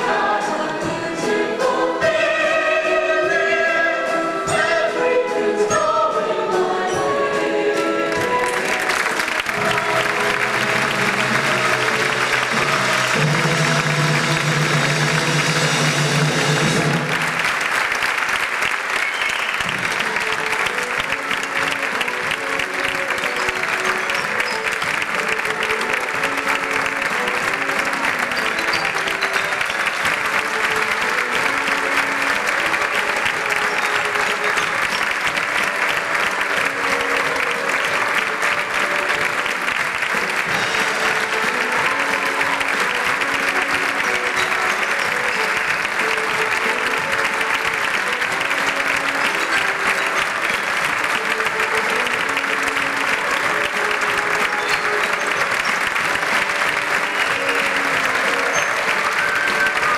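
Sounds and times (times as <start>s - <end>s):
bouncy melody: 0.0s - 17.6s, 19.6s - 59.9s
audience applauding: 8.0s - 59.9s.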